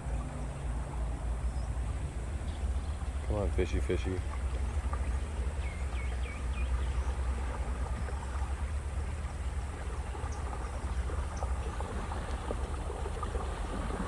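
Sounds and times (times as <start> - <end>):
boat motor rumbling: 0.0 - 14.0.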